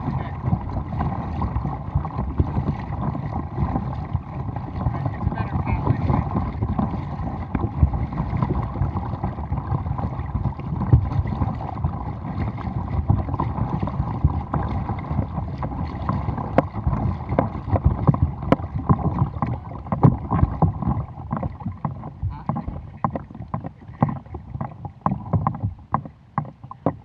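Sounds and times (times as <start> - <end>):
kayak paddle strokes splashing: 0.0 - 27.0
water sloshing along hull: 0.0 - 27.0
wind rumbling on microphone: 0.0 - 27.0.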